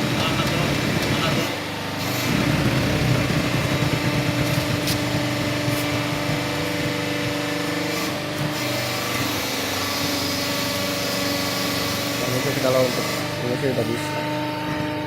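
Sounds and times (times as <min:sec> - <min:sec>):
baling press motor hum and whine: 0:00.0 - 0:15.0.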